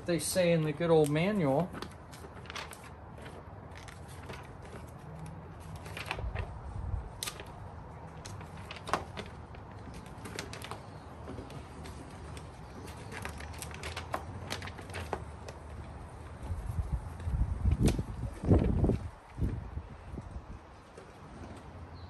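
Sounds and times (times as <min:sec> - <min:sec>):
paper rustling and crinkling: 0:00.2 - 0:19.7.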